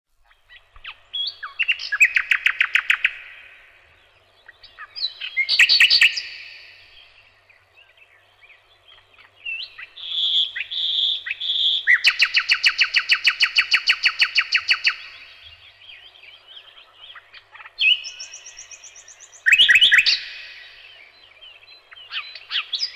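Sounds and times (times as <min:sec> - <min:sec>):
songbird singing trills and whistles: 0:00.2 - 0:22.9.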